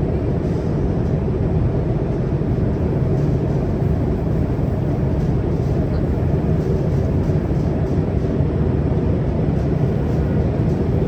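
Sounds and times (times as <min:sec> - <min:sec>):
metro train rumble inside car: 0:00.0 - 0:11.0.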